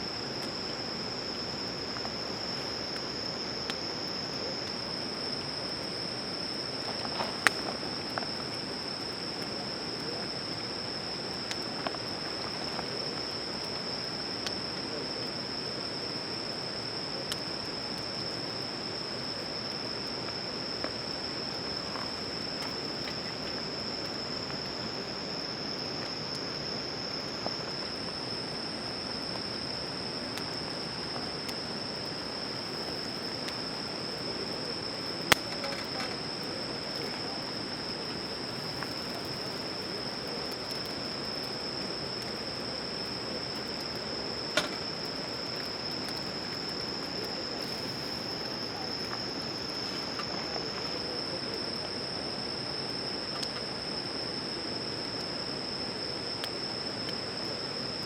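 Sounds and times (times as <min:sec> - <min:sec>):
campfire pops and crackles: 0:00.0 - 0:54.4
insects trilling: 0:00.0 - 0:58.0.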